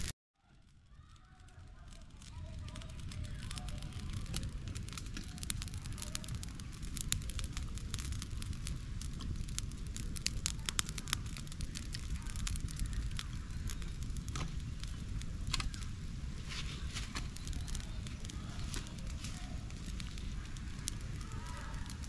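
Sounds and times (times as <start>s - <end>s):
campfire crackling and popping: 0.0s - 22.0s
steady low rumble: 2.0s - 22.0s.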